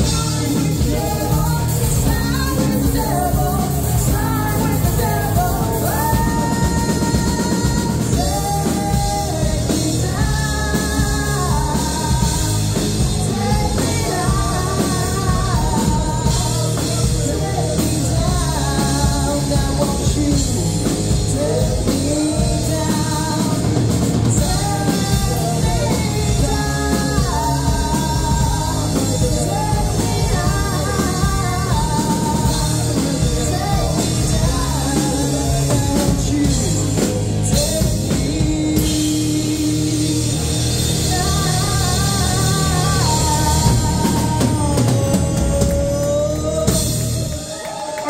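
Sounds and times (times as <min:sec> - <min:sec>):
drum kit: 0:00.0 - 0:48.0
electric guitars: 0:00.0 - 0:48.0
keyboard: 0:00.0 - 0:48.0
woman singing into a microphone: 0:00.0 - 0:48.0.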